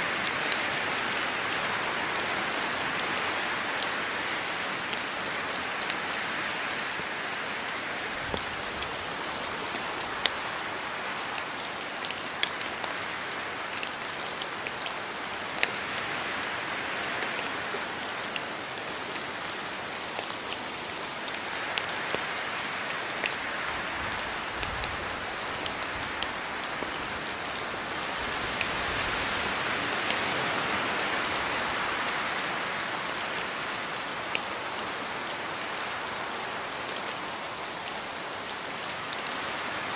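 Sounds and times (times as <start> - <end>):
raindrops hitting surfaces: 0.0 - 39.9
steady rain falling: 0.0 - 39.9.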